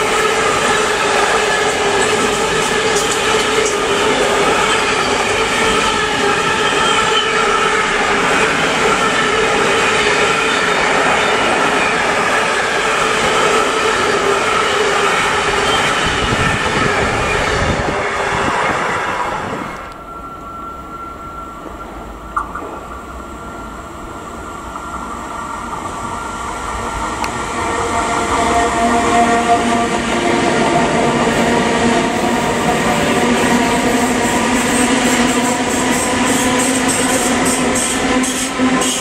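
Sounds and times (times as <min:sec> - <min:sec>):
train rolling rumble: 0:00.0 - 0:39.0.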